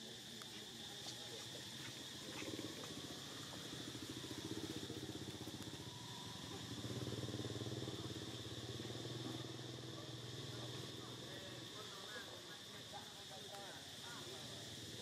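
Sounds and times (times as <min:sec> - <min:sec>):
high insect drone: 0:00.0 - 0:15.0
small engine running: 0:00.6 - 0:15.0.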